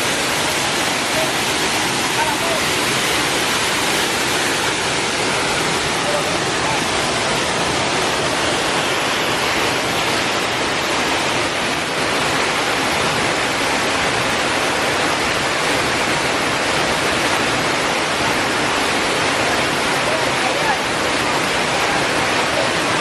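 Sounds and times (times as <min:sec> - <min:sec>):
waterfall rushing into pool: 0:00.0 - 0:23.0.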